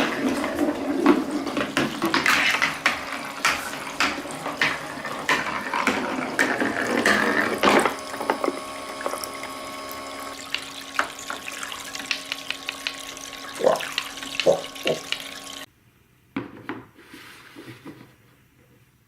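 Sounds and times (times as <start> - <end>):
marbles rolling down plastic run: 0.0 - 15.7.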